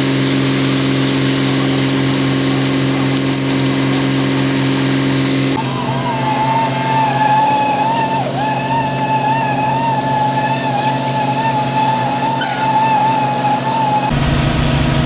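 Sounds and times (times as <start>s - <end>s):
machine high whine: 0.4s - 14.4s.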